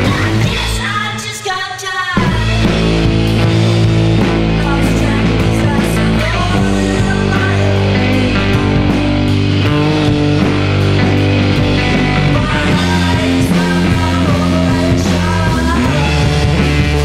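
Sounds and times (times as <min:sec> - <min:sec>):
bass guitar: 0:00.0 - 0:01.4, 0:02.1 - 0:17.0
drums: 0:00.0 - 0:17.0
electric guitars: 0:00.0 - 0:17.0.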